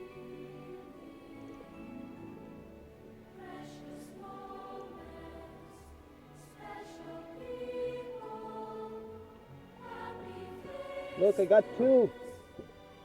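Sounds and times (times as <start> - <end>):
choir singing sustained notes: 0.0 - 13.0.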